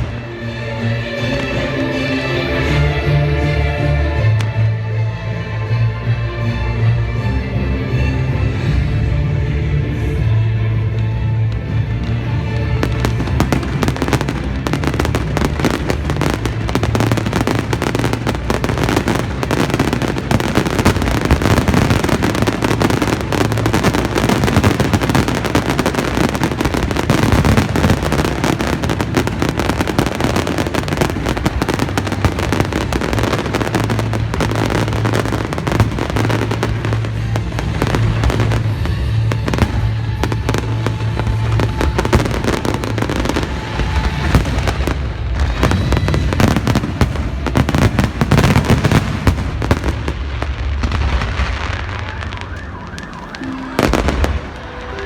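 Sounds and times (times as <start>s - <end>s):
fireworks crackling and banging: 0.0s - 2.9s, 11.6s - 55.0s
music playing: 0.0s - 55.0s.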